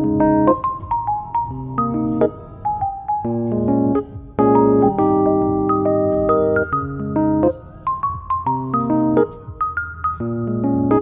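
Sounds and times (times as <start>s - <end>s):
electric piano chords: 0.0s - 11.0s.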